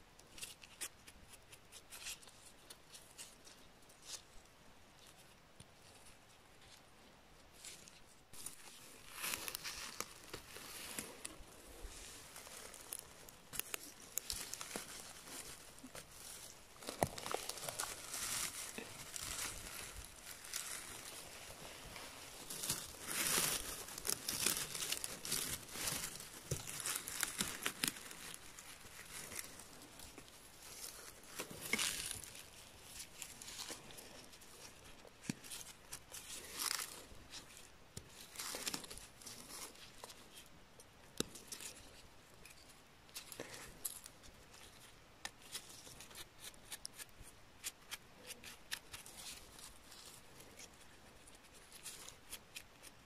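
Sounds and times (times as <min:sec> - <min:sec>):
rustling in dry moss and twigs: 0:00.0 - 0:53.0.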